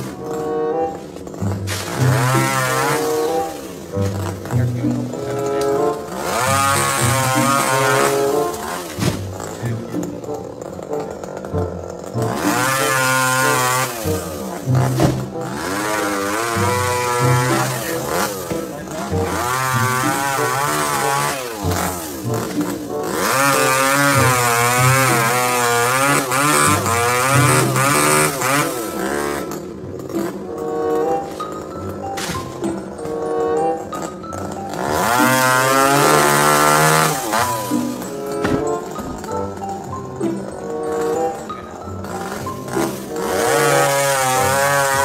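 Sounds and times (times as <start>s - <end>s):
chainsaw revving through cuts: 0.0s - 45.0s.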